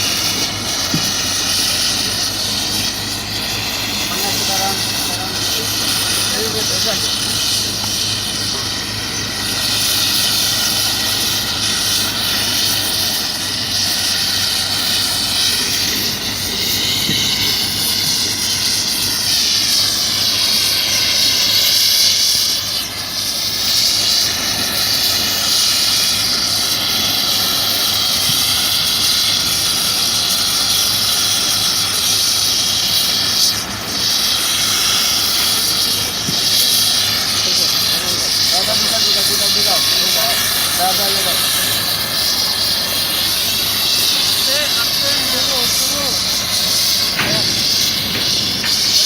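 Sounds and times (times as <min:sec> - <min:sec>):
gas torch flame hissing: 0:00.0 - 0:49.0.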